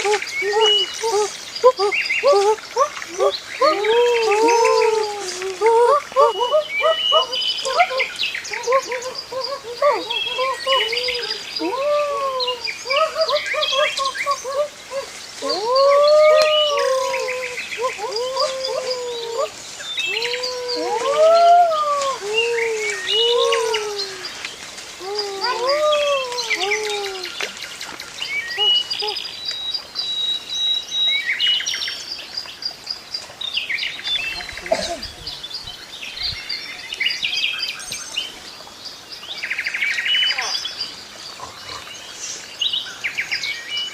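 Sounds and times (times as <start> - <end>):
birds calling: 0.0 - 31.8, 39.0 - 43.9.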